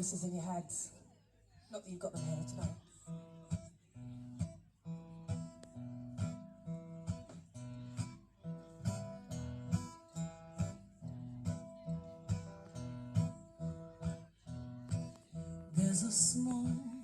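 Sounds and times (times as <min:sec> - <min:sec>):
strummed acoustic guitar chords: 0:02.0 - 0:17.0.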